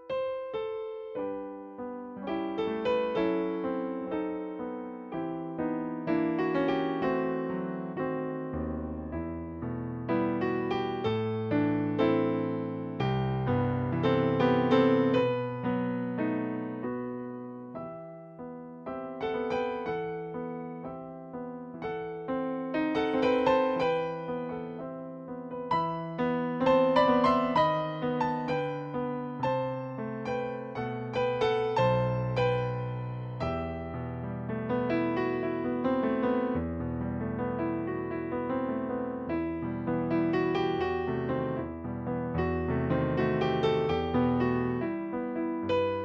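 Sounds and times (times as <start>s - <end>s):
slow piano melody: 0.0s - 46.0s.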